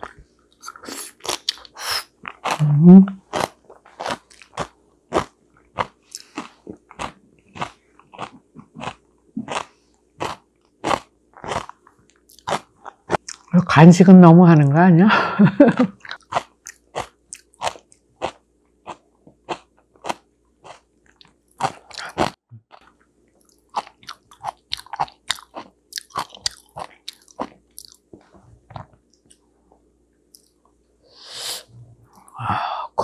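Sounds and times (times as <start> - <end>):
person chewing and biting food: 0.0 - 13.5, 16.0 - 29.4.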